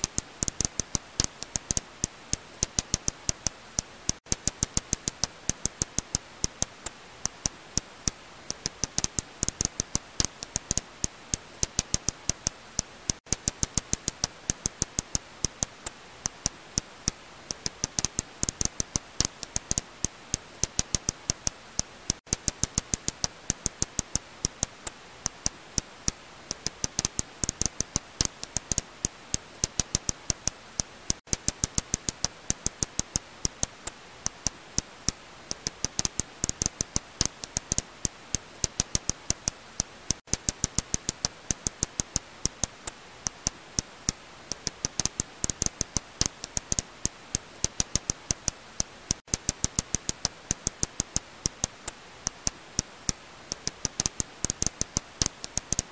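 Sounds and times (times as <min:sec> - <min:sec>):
bat echolocation clicks: 0:00.0 - 0:55.9
steady hiss: 0:00.0 - 0:55.9.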